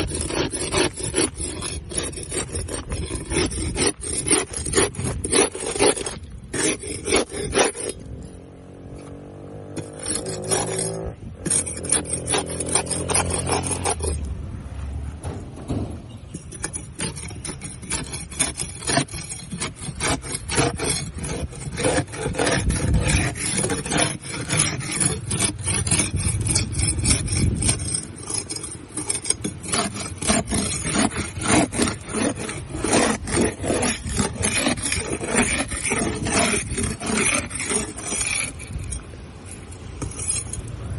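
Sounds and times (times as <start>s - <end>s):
scraping barnacles off boat hull: 0.0s - 40.9s.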